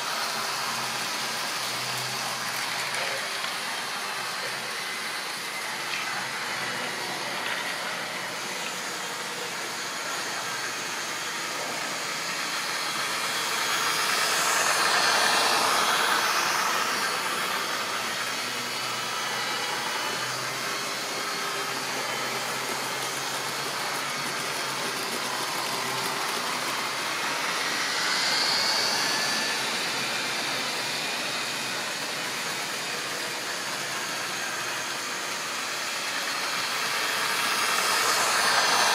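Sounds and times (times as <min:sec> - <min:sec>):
model train motors whirring: 0:00.0 - 0:38.9.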